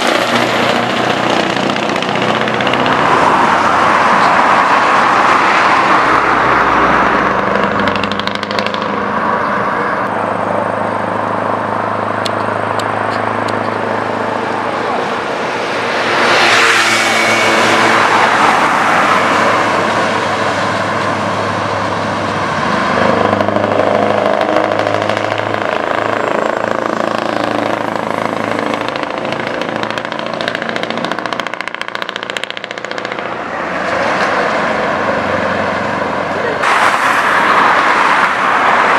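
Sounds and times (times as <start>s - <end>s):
loud diesel truck engine: 0.0s - 38.9s.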